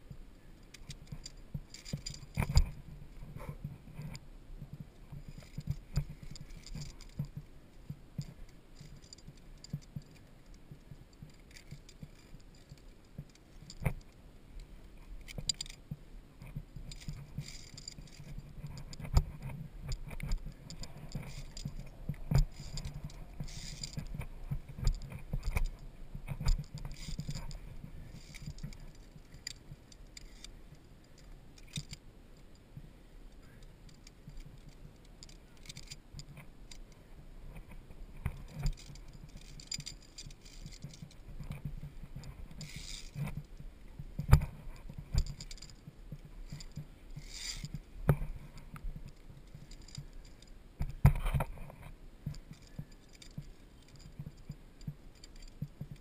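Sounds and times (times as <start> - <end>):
metal carabiners clinking: 0.6 - 3.3, 5.0 - 15.9, 16.5 - 32.6, 33.6 - 36.9, 37.6 - 43.6, 44.2 - 56.0.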